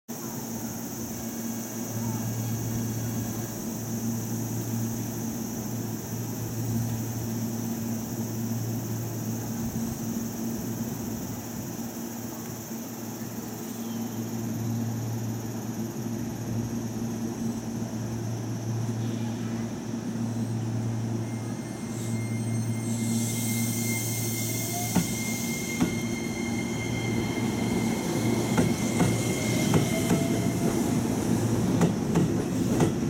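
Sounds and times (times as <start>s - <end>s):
electric trains humming: 0.2s - 33.0s.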